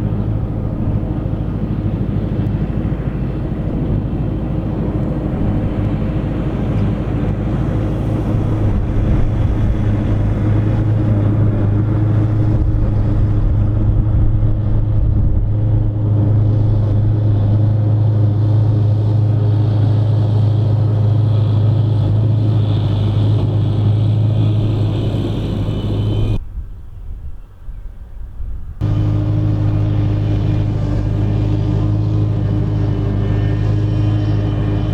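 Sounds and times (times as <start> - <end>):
tractor engine drone: 0.0 - 26.4, 28.8 - 34.9.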